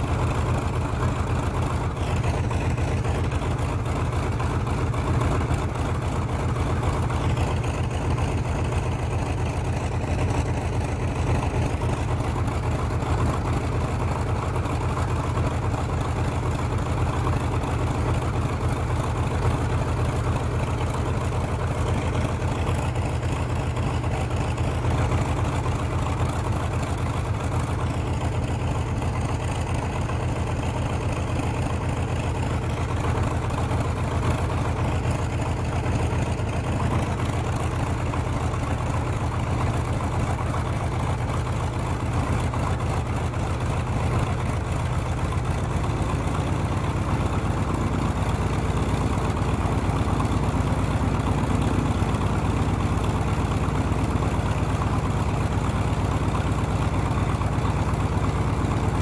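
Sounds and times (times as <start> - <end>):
radial aircraft engine idling: 0.0 - 59.0.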